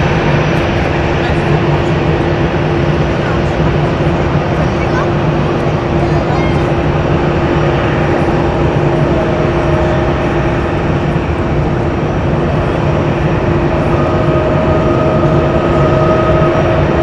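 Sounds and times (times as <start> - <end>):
jet airliner engines running: 0.0 - 17.0.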